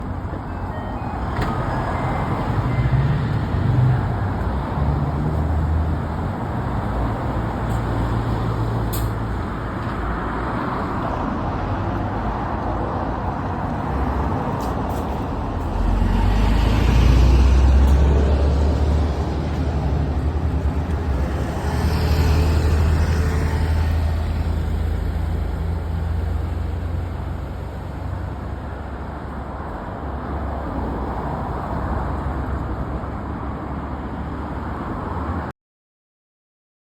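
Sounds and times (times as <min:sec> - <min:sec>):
diesel bus engine rumbling: 0:00.0 - 0:35.1.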